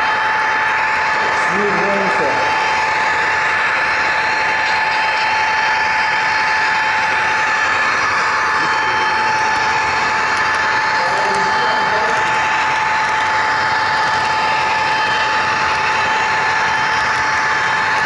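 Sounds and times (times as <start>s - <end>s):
high whine: 0.0s - 18.0s.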